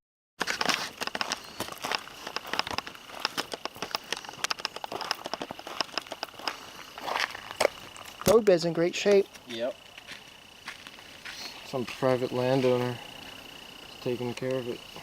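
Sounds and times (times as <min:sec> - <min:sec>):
footsteps scuffing on gravel: 0:00.4 - 0:08.5, 0:09.2 - 0:13.4
thin steady high tone: 0:01.2 - 0:15.0.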